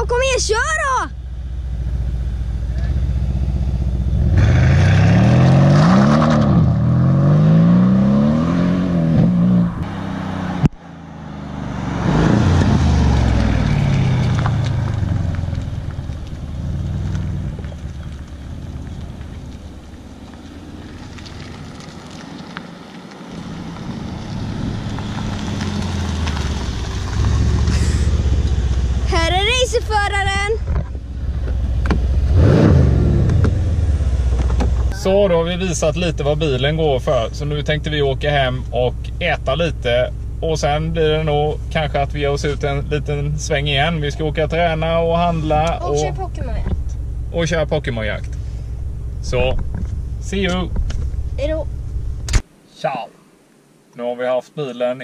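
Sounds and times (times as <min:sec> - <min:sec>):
car engine accelerating hard: 0:01.6 - 0:29.6, 0:31.1 - 0:51.5.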